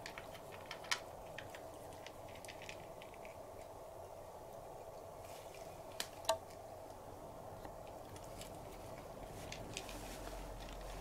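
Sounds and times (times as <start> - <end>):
cat licking and chewing: 0.0 - 6.7, 7.5 - 11.0
faint steady hum: 0.0 - 11.0.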